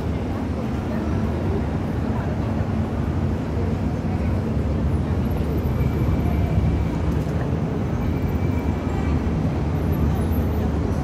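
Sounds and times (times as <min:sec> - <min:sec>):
low city street rumble: 0:00.0 - 0:11.0.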